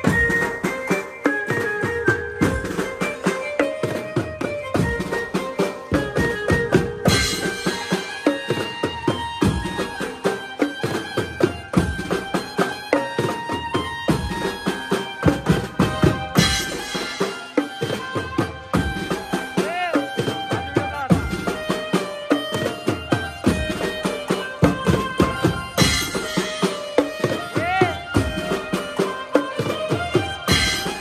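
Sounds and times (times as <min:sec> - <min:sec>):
band playing: 0:00.0 - 0:31.0
fast drum and percussion: 0:00.0 - 0:31.0.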